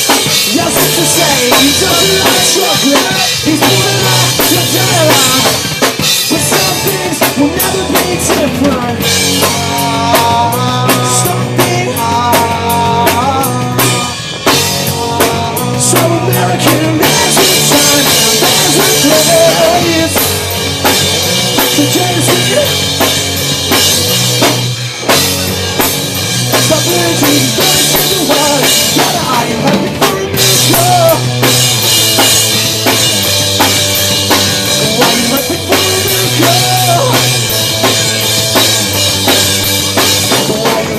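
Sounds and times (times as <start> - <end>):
live band playing: 0.0 - 40.9.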